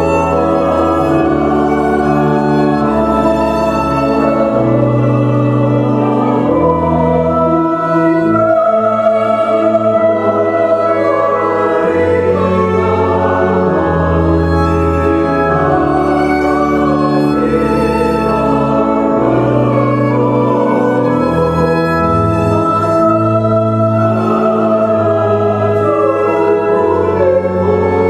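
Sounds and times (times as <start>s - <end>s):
mixed choir singing a hymn: 0.0s - 28.0s
organ playing: 0.0s - 28.0s
violin playing: 0.0s - 28.0s.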